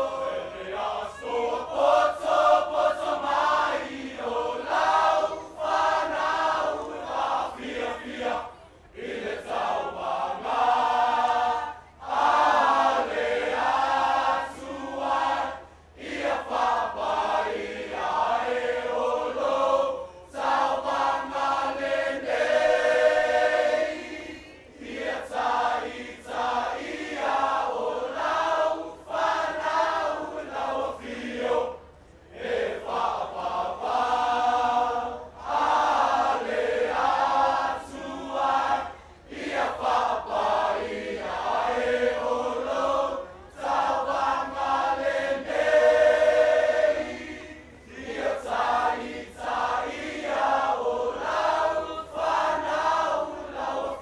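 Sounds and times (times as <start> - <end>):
group of boys singing: 0.0 - 54.0.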